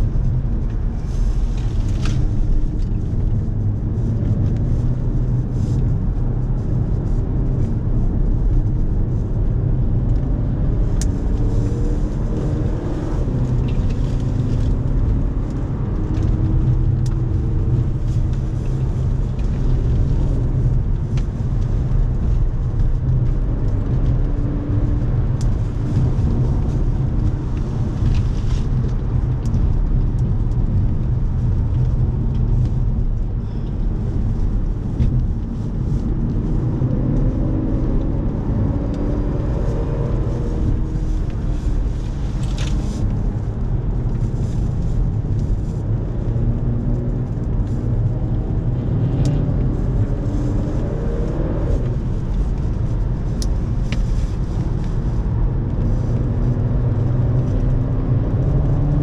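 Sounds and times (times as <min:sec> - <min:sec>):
car engine accelerating through gears: 0:00.0 - 0:59.0
road and wind noise: 0:00.0 - 0:59.0.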